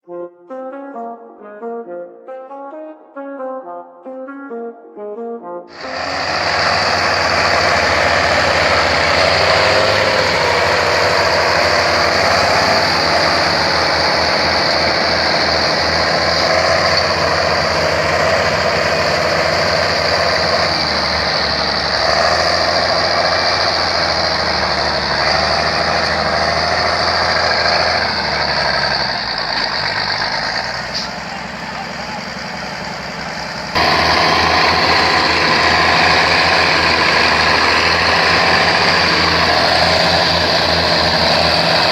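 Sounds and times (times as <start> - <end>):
boat engine running: 5.8 - 41.9.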